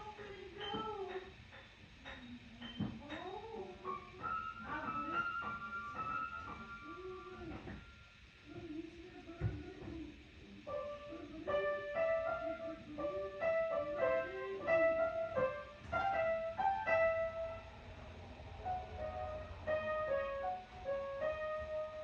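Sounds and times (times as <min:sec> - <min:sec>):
piano notes: 0:00.0 - 0:08.8, 0:09.4 - 0:22.0.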